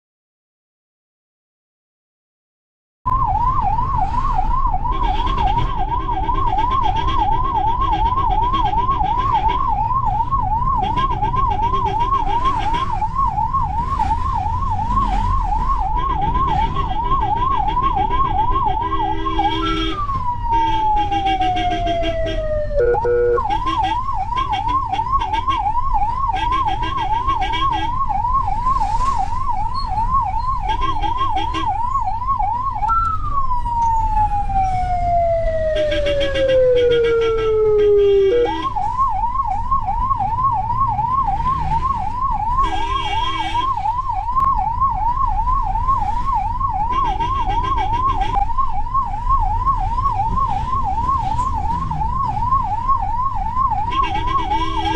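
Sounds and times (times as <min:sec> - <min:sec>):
ambulance siren: 0:03.1 - 0:54.9
engine and road rumble: 0:03.1 - 0:54.9.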